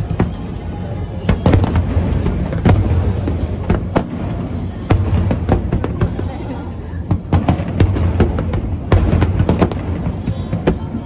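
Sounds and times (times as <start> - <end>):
fireworks cracks and bangs: 0.0 - 11.0
low fireworks rumble: 0.0 - 11.0.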